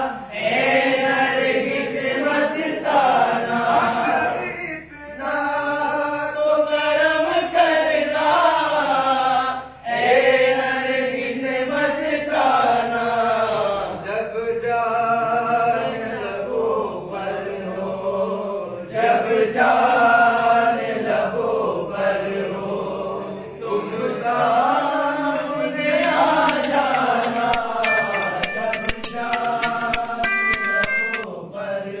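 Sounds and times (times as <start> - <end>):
men chanting together: 0.0 - 30.2, 31.3 - 32.0.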